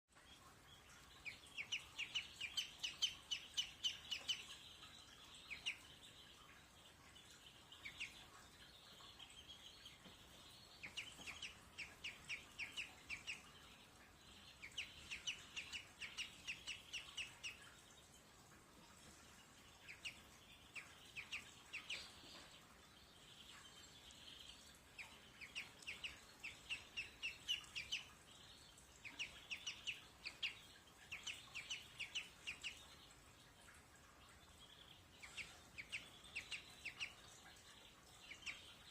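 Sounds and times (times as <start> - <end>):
pet birds chirping: 0.1 - 38.9.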